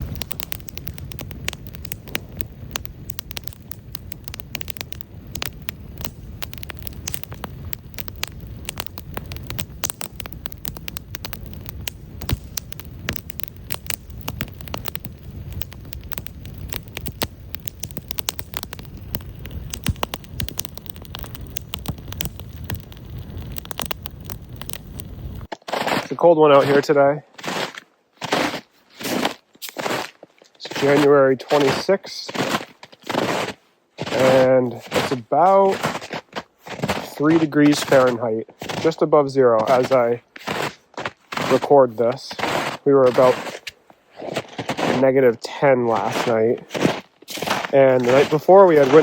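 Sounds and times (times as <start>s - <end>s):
campfire crackling and popping: 0.0s - 26.9s, 30.5s - 32.4s, 34.1s - 49.0s.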